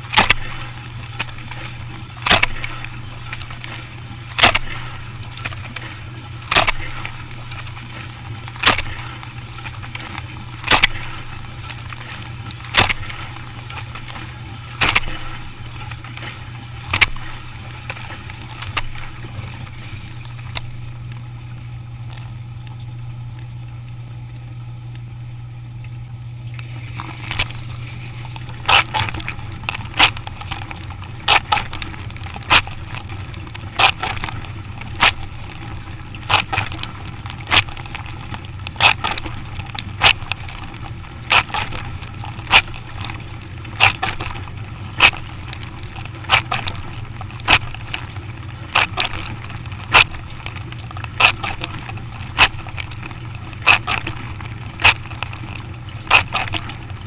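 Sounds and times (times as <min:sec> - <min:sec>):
dishwasher motor hum: 0:00.0 - 0:57.0.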